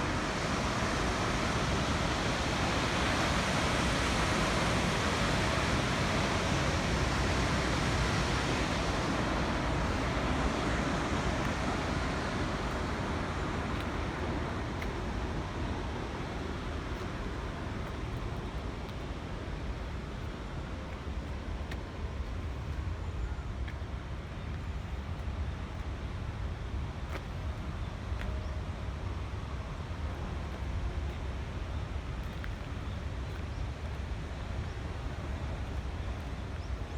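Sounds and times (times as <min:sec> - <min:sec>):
water roaring from a dam: 0:00.0 - 0:36.9.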